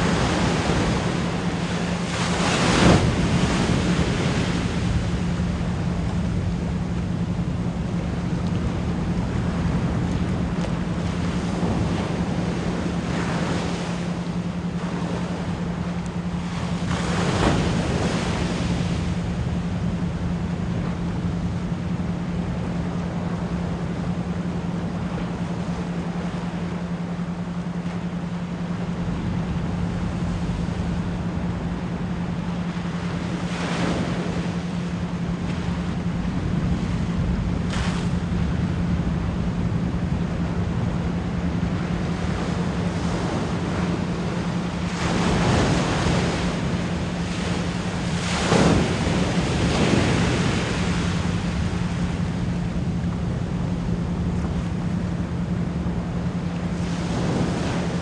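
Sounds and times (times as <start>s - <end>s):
ocean waves washing in: 0.0s - 58.0s.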